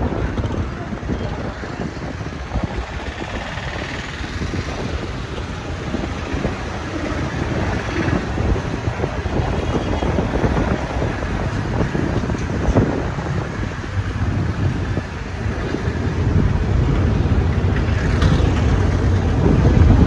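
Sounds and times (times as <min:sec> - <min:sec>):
vehicle engine and road noise: 0:00.0 - 0:20.0
wind buffeting microphone: 0:00.0 - 0:20.0.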